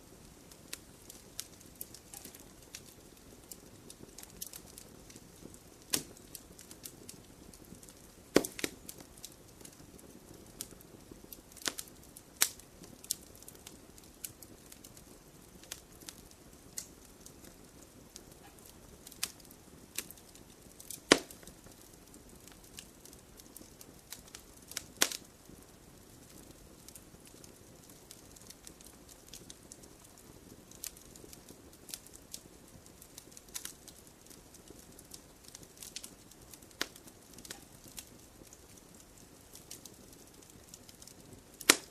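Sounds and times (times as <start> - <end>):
campfire crackling and popping: 0.0 - 41.9
soft hiss of burning fire: 0.0 - 41.9.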